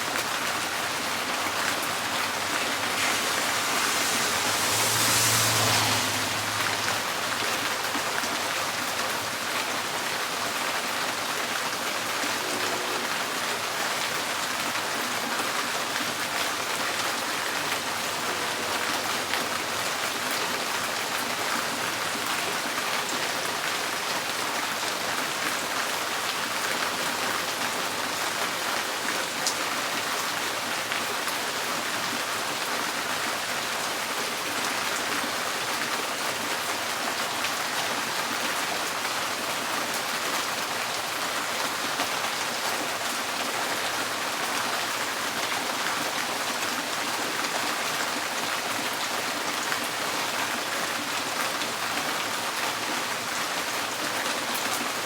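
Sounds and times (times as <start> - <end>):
rain drumming on a tin roof: 0.0 - 55.0.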